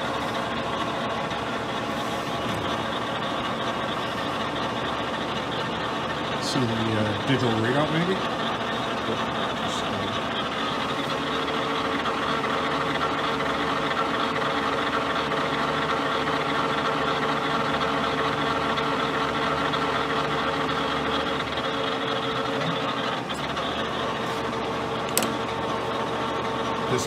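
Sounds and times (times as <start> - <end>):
lathe humming with whine: 0.0 - 27.0.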